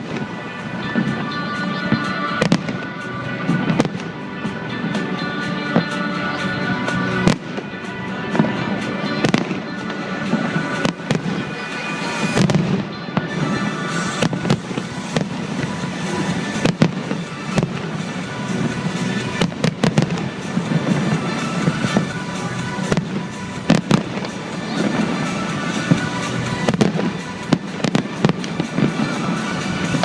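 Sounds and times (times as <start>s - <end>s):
fireworks bangs and crackles: 0.0s - 30.0s
music playing: 0.0s - 30.0s.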